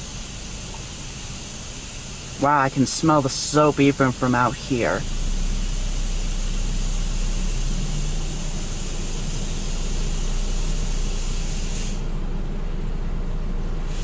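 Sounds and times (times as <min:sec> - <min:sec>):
water spraying from nozzles: 0:00.0 - 0:12.1
steady low hum: 0:00.0 - 0:14.0.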